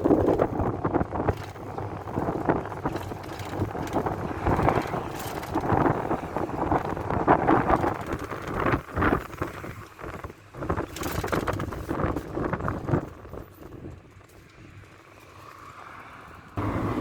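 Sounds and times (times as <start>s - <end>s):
short rattles and knocks: 0.0s - 14.5s
minibus engine and road noise: 0.0s - 17.0s.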